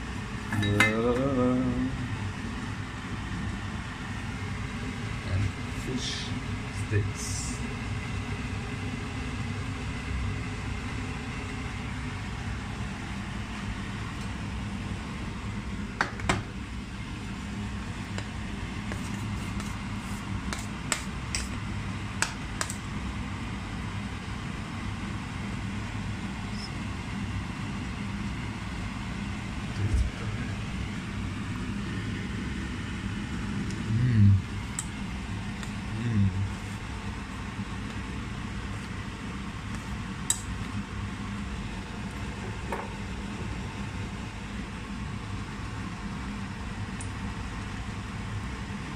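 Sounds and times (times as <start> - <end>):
stovetop cooking hum and hiss: 0.0 - 48.9.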